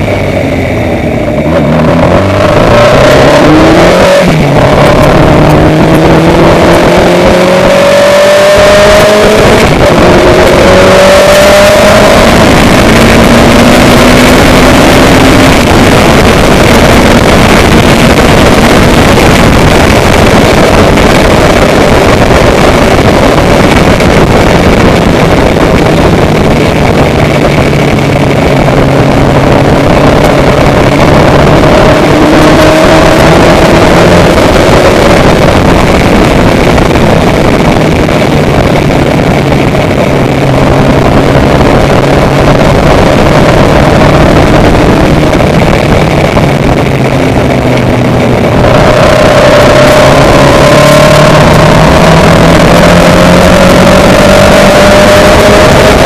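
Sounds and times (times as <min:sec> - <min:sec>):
loud engine revving: 0:00.0 - 0:56.0.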